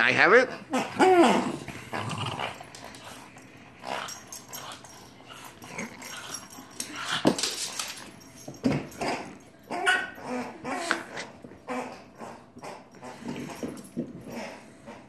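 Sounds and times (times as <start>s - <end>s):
dog growling and wheezing: 0.4s - 7.2s, 8.9s - 15.0s.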